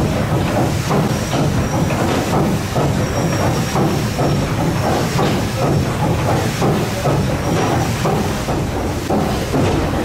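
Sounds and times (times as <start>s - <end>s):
steam engine clanking and hissing: 0.0s - 10.0s.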